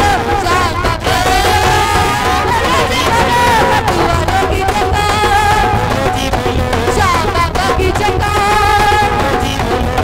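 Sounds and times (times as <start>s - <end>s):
instrumental accompaniment: 0.0s - 10.0s
woman singing into a microphone: 0.0s - 10.0s.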